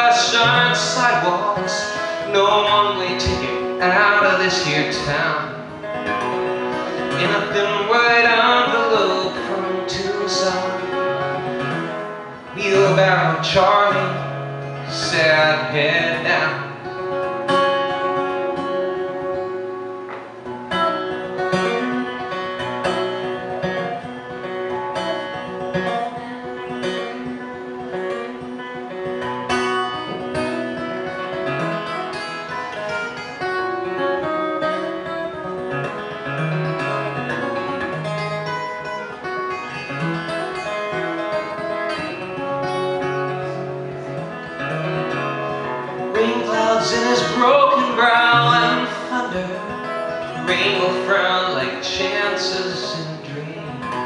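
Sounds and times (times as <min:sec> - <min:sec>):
acoustic guitar playing: 0:00.0 - 0:54.0.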